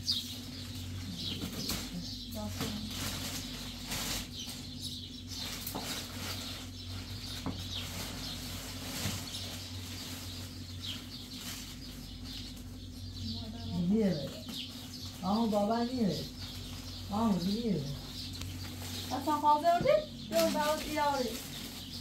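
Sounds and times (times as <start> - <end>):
birds chirping: 0.0 - 22.0
steady low hum: 0.0 - 22.0.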